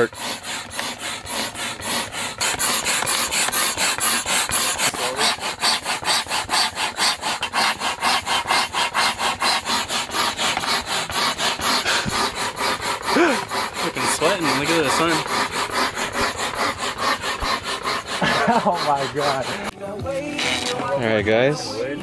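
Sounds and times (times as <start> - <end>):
hand air pump strokes: 0.0 - 21.2.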